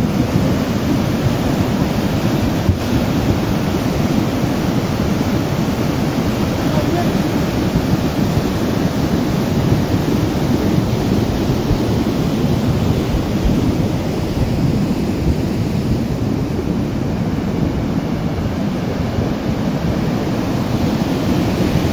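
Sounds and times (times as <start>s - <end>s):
flood water rushing over stones: 0.0s - 21.9s.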